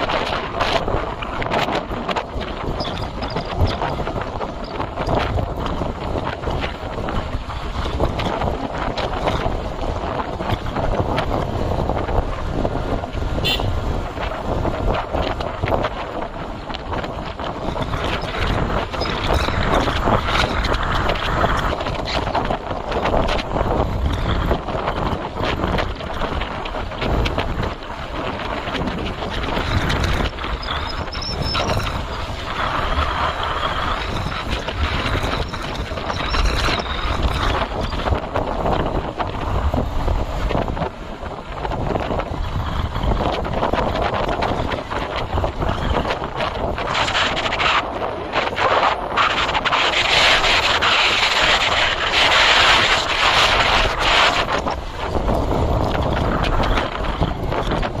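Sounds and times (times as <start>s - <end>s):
motorbike rumbling: 0.0s - 58.0s
wind buffeting microphone: 0.0s - 58.0s.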